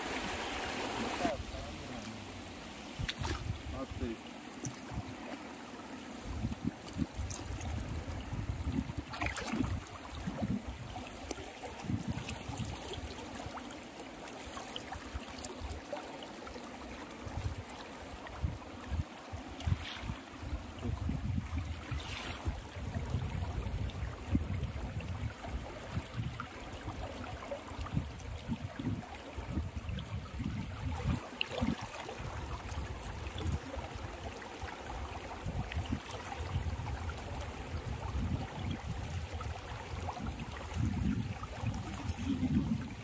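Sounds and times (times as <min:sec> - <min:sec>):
river water rippling: 0:00.0 - 0:43.0.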